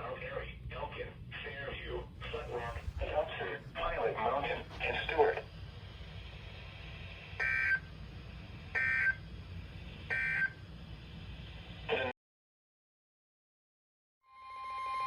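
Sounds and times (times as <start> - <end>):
faint hum and hiss: 0.0 - 12.1.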